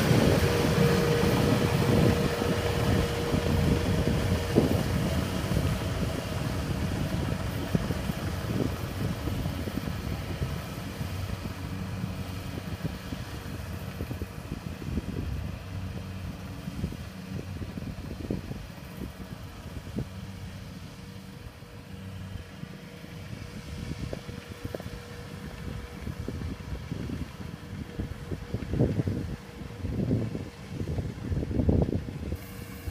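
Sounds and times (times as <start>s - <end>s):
combine harvester engine droning: 0.0s - 32.9s.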